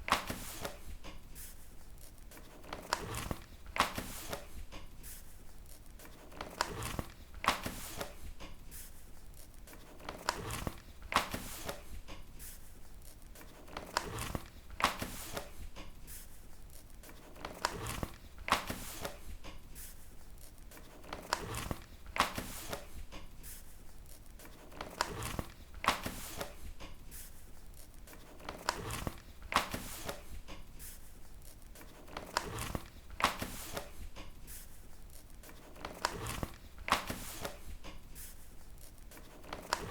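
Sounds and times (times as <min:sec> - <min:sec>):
book pages turning: 0:00.0 - 0:39.9.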